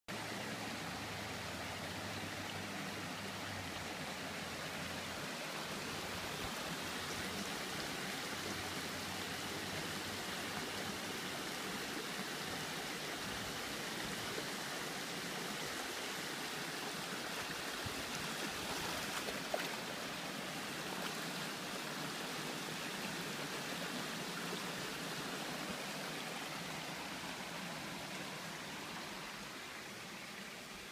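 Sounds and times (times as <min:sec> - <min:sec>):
creek rippling over stones: 0:00.1 - 0:30.9.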